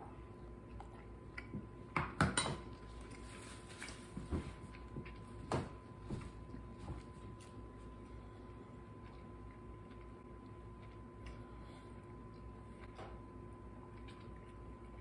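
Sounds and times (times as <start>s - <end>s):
man chewing with wet smacks: 0.0s - 15.0s.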